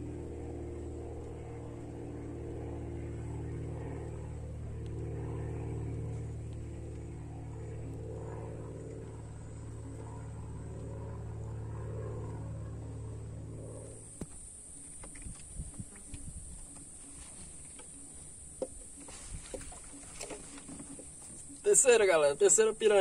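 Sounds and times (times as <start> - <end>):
small boat motor humming: 0.0 - 23.0.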